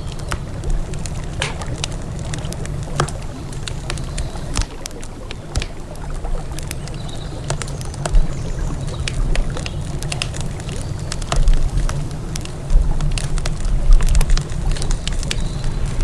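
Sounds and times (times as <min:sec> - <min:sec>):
campfire crackling and popping: 0:00.0 - 0:16.0
river water flowing: 0:00.0 - 0:16.0.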